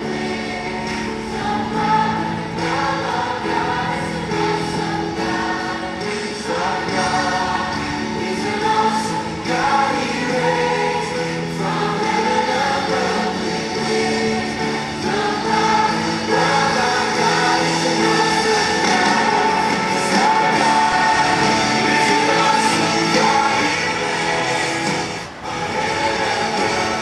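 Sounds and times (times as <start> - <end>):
choir singing gospel song: 0.0 - 27.0
instrumental backing music: 0.0 - 27.0.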